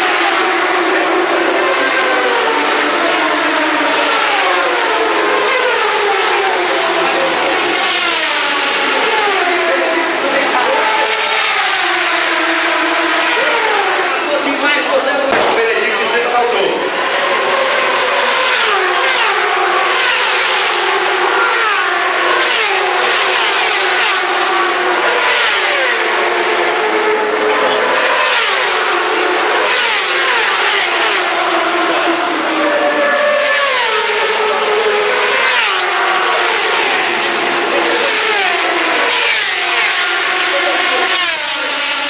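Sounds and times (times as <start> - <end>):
motorbike engines racing: 0.0 - 42.0.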